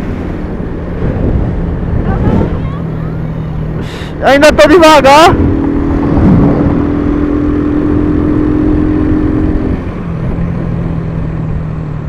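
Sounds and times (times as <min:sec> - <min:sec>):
wind rush: 0:00.0 - 0:11.8.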